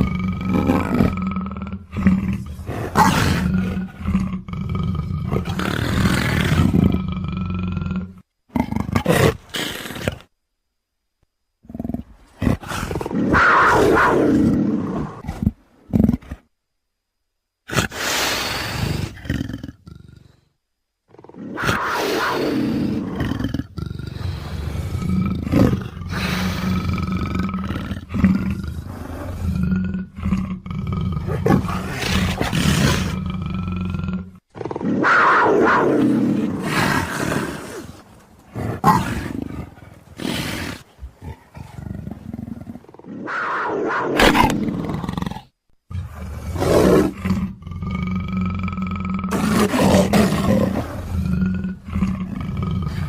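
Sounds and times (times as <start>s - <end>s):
leopard growling and roaring: 0.0s - 10.3s, 11.6s - 16.5s, 17.7s - 20.5s, 21.1s - 53.0s
steady low hum: 0.0s - 53.0s.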